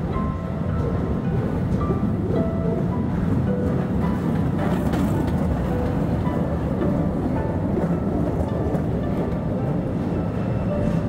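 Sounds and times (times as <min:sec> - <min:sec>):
train rumbling and rattling: 0:00.0 - 0:11.0.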